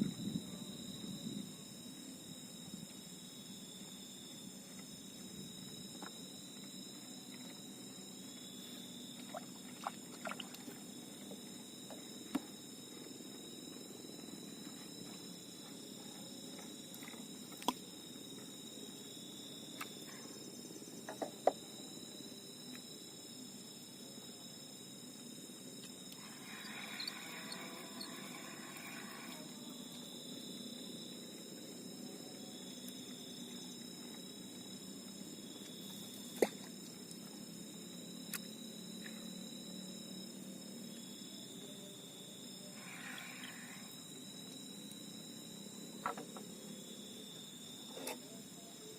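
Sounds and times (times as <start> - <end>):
night insects chorus: 0.0 - 48.9.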